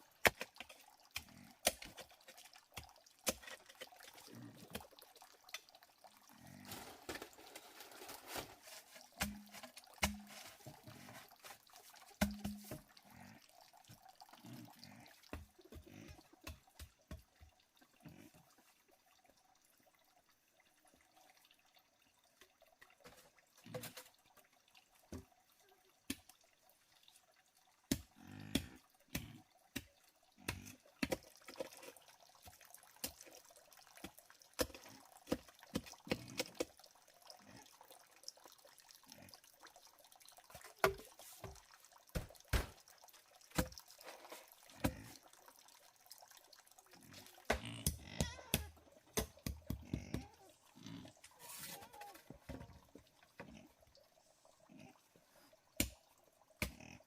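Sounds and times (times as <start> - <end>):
water dripping and splashing: 0.0 - 57.0.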